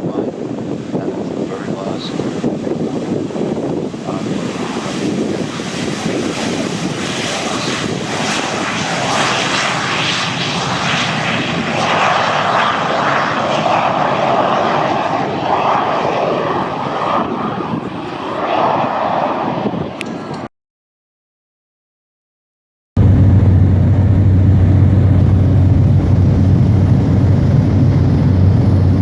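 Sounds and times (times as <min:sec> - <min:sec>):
airplane engine flying by: 0:02.0 - 0:20.4, 0:23.0 - 0:29.0.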